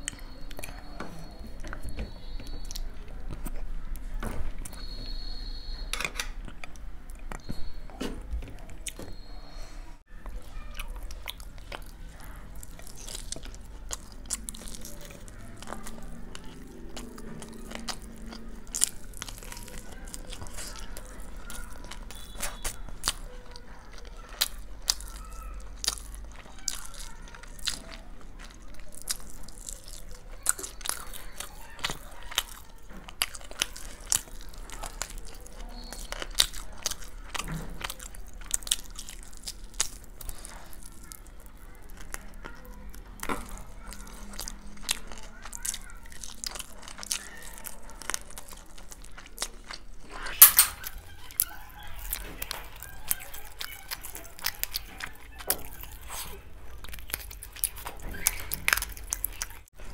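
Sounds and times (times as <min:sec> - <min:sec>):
chewing and biting food: 0:00.0 - 0:09.3, 0:10.0 - 0:59.9.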